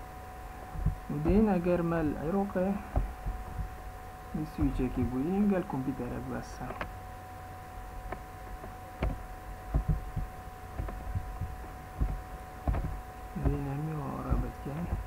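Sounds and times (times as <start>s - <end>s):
electrical whine: 0.0s - 15.0s.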